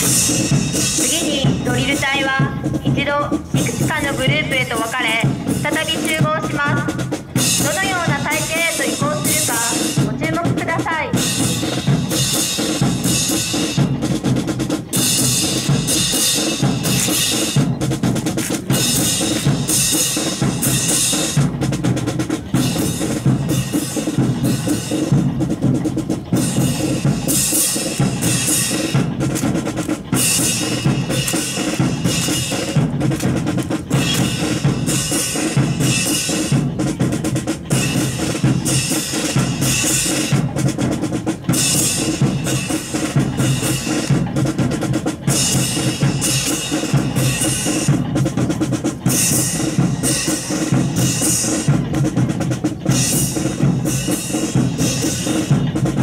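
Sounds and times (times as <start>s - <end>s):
marching snare and bass drum: 0.0s - 56.0s.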